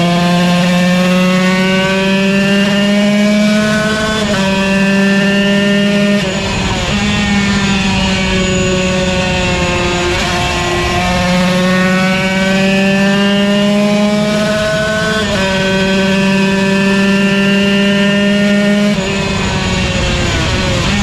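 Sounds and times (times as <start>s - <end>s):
two-stroke race bike engine: 0.0s - 21.0s.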